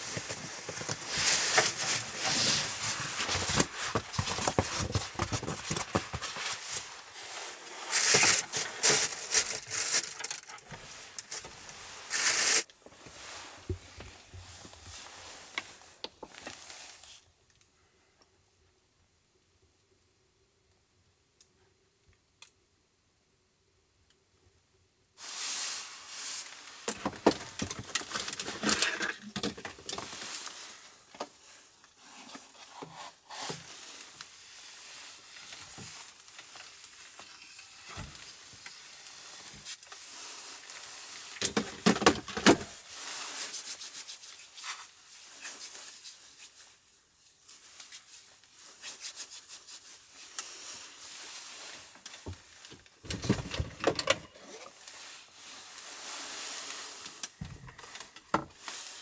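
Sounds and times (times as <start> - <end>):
rubbing and rustling of objects: 0.0 - 17.4, 25.2 - 59.0.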